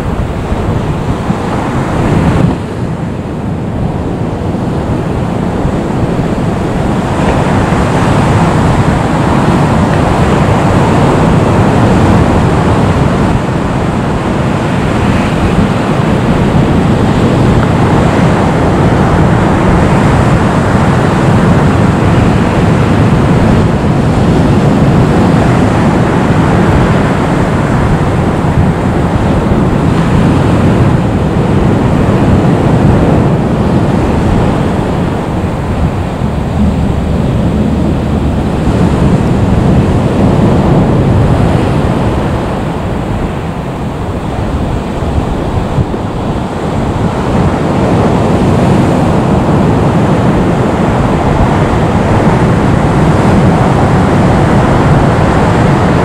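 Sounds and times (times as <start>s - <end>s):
jet engines running: 0.0s - 56.0s
wind buffeting microphone: 0.0s - 56.0s.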